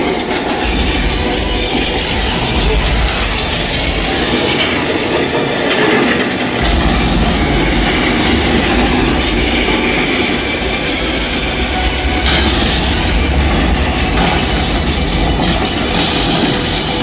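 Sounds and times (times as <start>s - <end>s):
train rumble and explosions: 0.0s - 17.0s.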